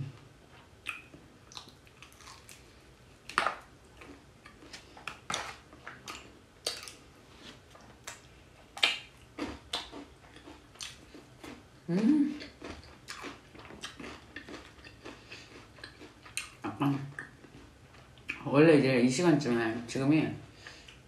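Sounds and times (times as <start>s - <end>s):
chewing crispy food: 0.5s - 18.5s.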